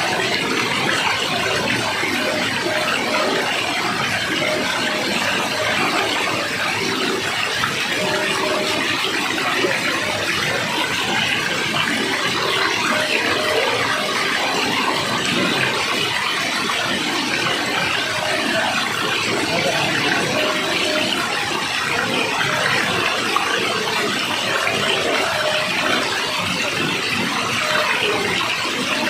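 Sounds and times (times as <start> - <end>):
water rushing and splashing: 0.0 - 29.0.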